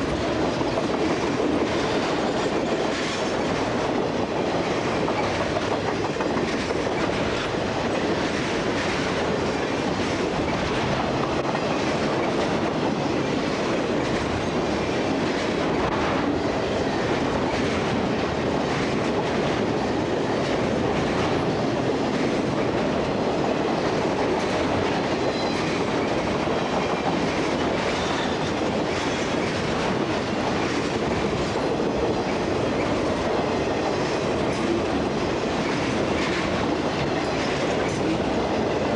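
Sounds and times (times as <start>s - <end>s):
freight train wheels clicking on rails: 0.0s - 38.9s.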